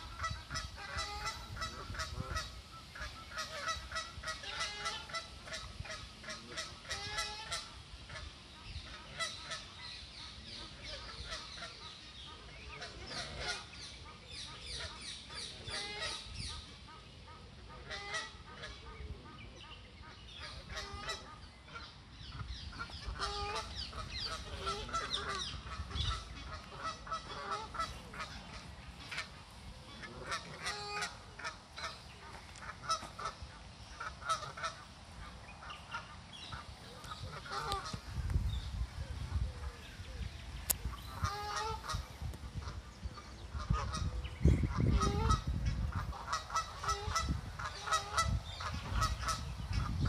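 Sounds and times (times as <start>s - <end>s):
low rumble on microphone: 0.0s - 7.4s, 15.6s - 50.0s
geese honking: 0.0s - 9.9s, 10.5s - 38.1s, 40.8s - 50.0s.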